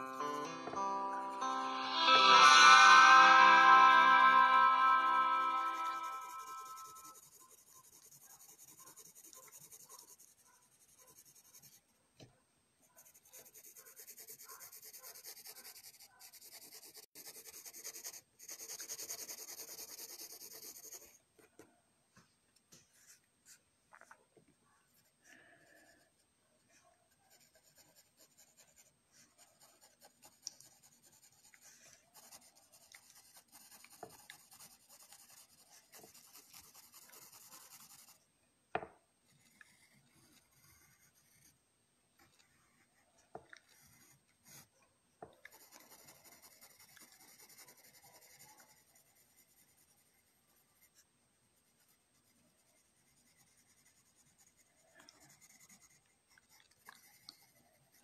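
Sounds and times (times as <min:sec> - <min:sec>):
pencil scratching on paper: 0:04.8 - 0:11.9, 0:12.8 - 0:21.6, 0:22.8 - 0:23.6, 0:24.9 - 0:38.2, 0:38.8 - 0:41.6, 0:42.2 - 0:44.8, 0:45.4 - 0:58.0.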